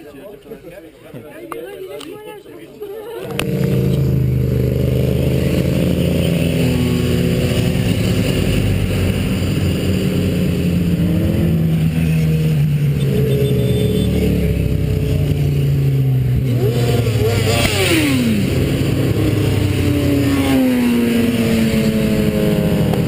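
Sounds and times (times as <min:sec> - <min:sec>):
motorcycle engine running: 0:03.3 - 0:23.0.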